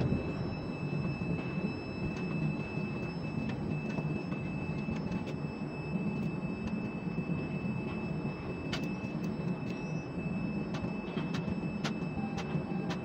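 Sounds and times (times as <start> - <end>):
crane mechanical rumble: 0.0 - 13.0.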